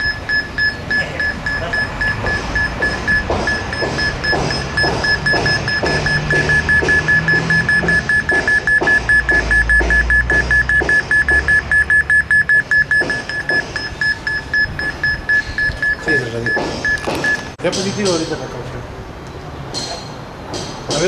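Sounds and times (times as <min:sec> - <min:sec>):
rapid high-pitched phone beeps: 0:00.0 - 0:17.6.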